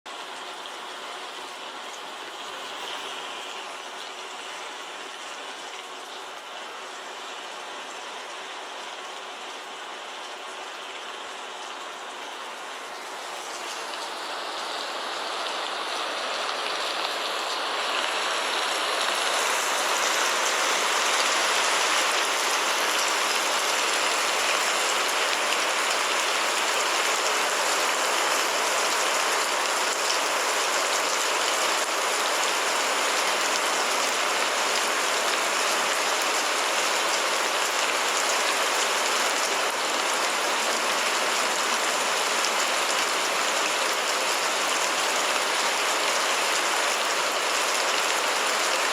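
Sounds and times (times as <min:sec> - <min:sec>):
steady rain: 0:00.1 - 0:48.9.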